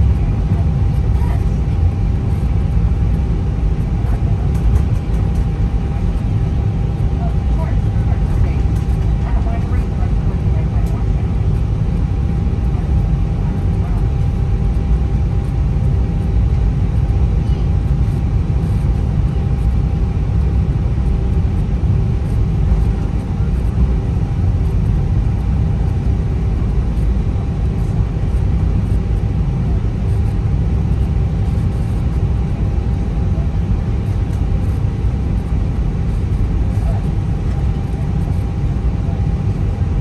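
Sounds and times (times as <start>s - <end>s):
aircraft cabin rumble: 0.0s - 40.0s
steady hum: 0.0s - 40.0s.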